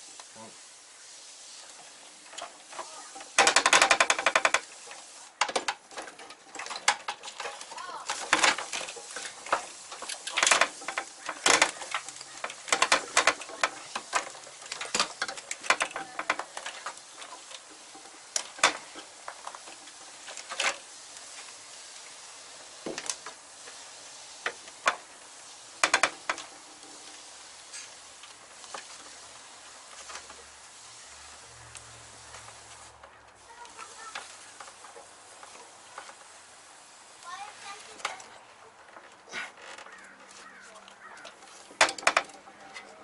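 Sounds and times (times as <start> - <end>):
plastic wiring rustling and scraping: 0.0 - 43.0.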